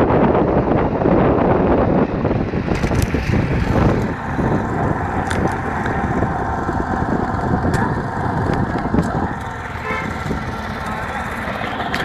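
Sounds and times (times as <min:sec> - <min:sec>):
wind buffeting microphone: 0:00.0 - 0:12.0
motorcycle engine running: 0:01.7 - 0:12.0.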